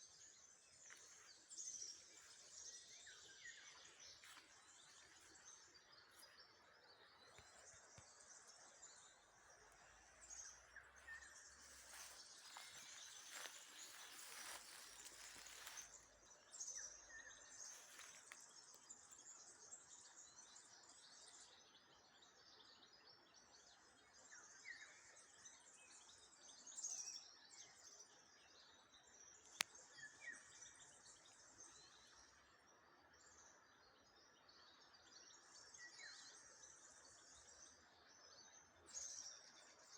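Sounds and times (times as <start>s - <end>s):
faint birds chirping: 0.0s - 39.9s.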